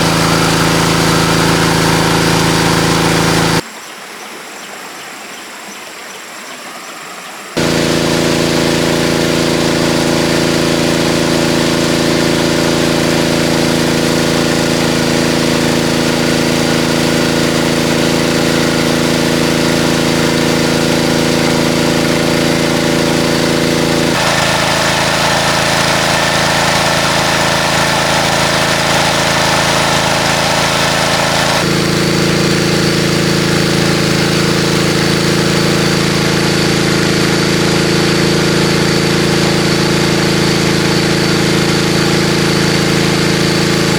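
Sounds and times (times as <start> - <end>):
motor running steadily: 0.0 - 3.6, 7.6 - 43.9.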